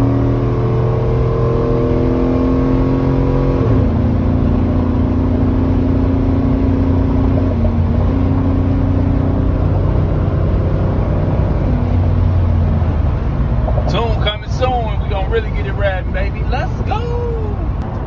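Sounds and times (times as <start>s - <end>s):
car engine accelerating: 0.0s - 16.9s
road noise: 0.0s - 18.0s.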